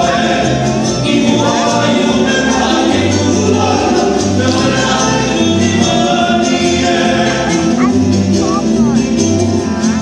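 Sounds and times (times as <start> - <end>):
voices singing together: 0.0 - 9.6
repeating bass line: 0.0 - 10.0.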